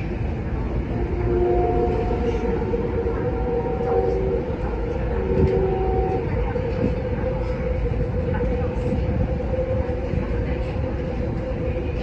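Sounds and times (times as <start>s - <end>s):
constant hum: 0.0s - 12.0s
train wheels rumbling on track: 0.0s - 12.0s.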